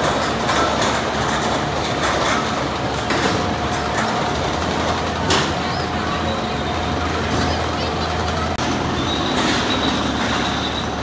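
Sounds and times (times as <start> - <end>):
lift chain humming and clattering: 0.0 - 11.0.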